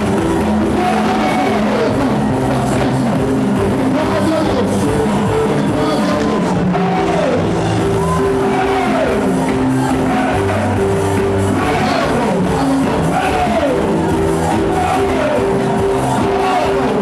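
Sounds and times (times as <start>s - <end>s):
voices singing: 0.0s - 17.0s
worship band playing: 0.0s - 17.0s.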